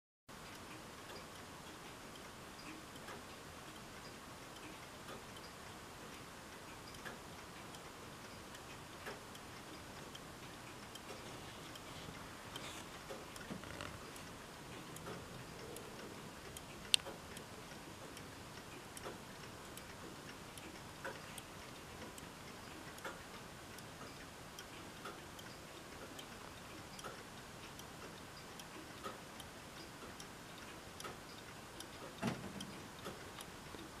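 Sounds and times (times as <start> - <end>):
clock ticking: 0.4 - 34.0.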